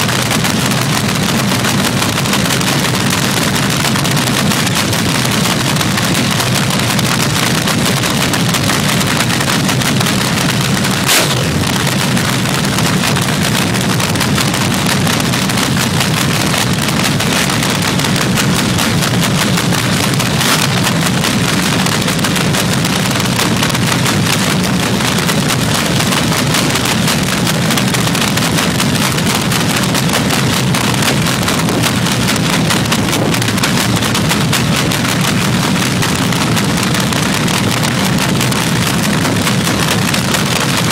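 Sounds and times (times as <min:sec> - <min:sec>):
drag car engine idling: 0:00.0 - 0:40.9.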